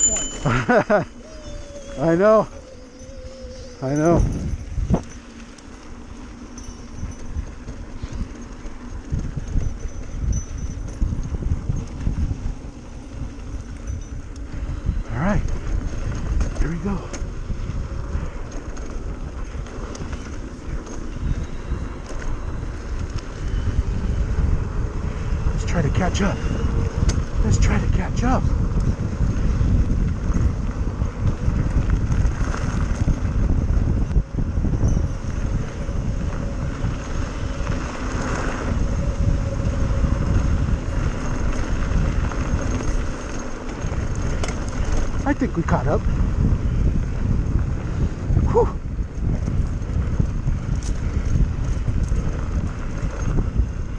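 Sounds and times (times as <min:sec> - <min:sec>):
bike tyres rumbling over dirt: 0:00.0 - 0:53.9
wind buffeting microphone: 0:00.0 - 0:53.9.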